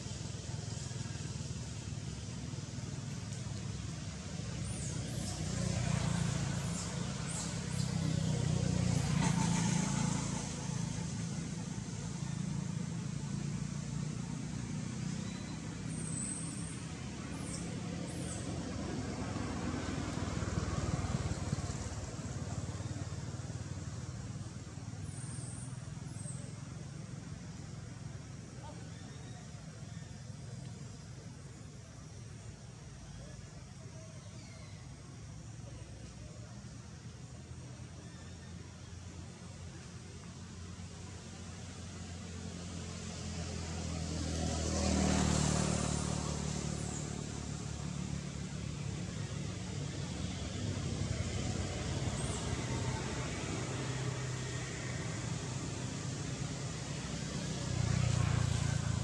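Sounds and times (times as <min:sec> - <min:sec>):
passing vehicle engine rumble: 0:00.0 - 0:59.0.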